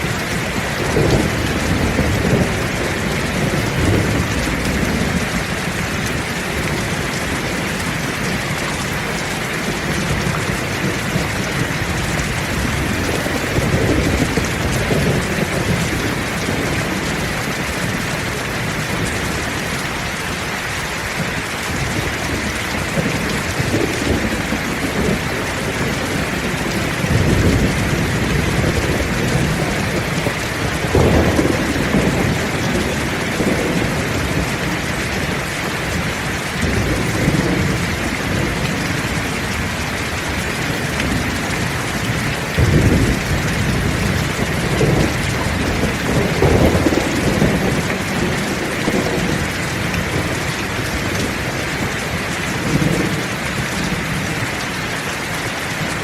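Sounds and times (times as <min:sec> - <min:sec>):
heavy rain falling: 0:00.0 - 0:56.0
thunder rumbling: 0:00.0 - 0:56.0.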